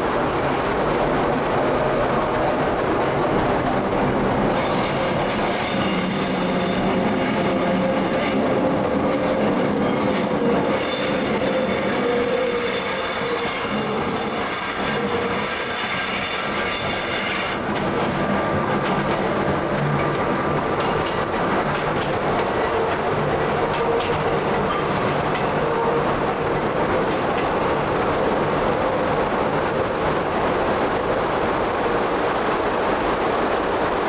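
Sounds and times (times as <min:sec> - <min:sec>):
stream rushing: 0:00.0 - 0:34.0
train wheels squealing on rails: 0:03.0 - 0:31.0.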